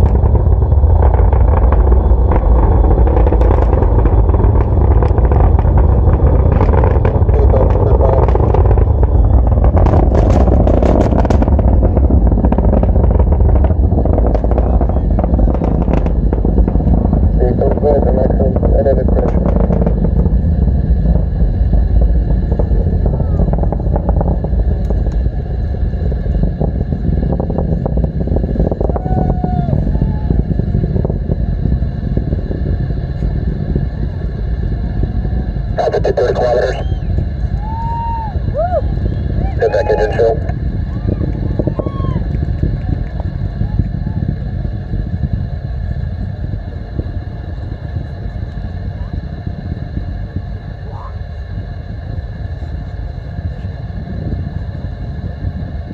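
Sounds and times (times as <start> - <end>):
rocket engines rumbling: 0.0 - 55.9.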